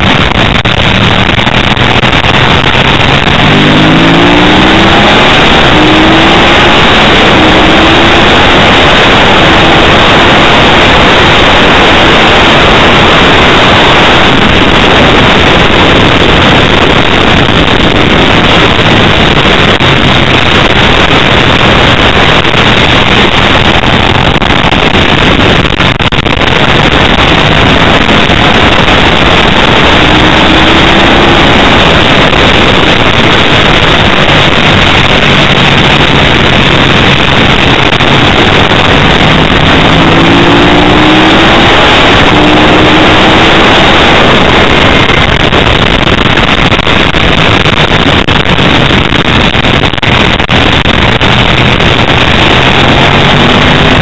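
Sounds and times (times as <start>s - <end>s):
motorcycle engine at speed: 0.0s - 54.0s
wind noise on microphone: 0.0s - 54.0s.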